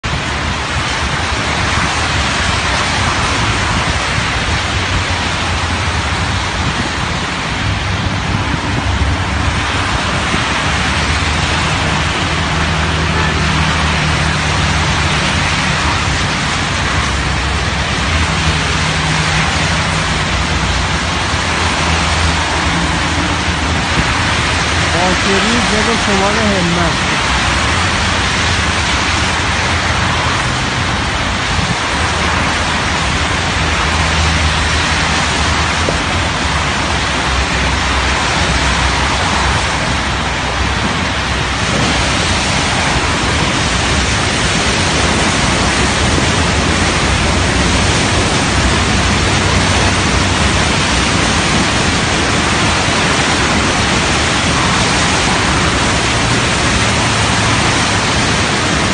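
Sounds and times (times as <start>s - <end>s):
cars passing on wet road: 0.0s - 58.9s
floodwater rushing: 0.0s - 58.9s
rain: 0.0s - 58.9s.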